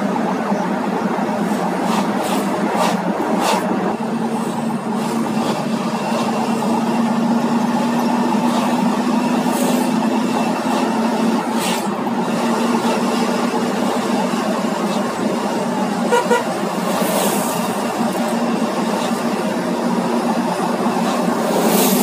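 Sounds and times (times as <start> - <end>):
engine drone: 0.0 - 22.0
road and tyre noise: 0.0 - 22.0.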